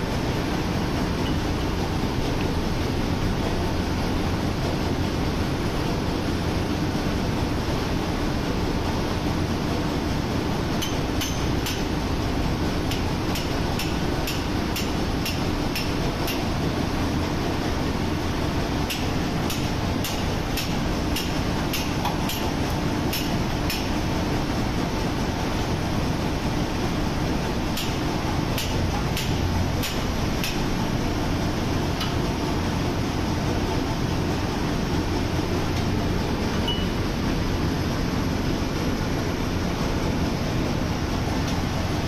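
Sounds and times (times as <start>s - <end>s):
engine room machinery: 0.0s - 42.0s.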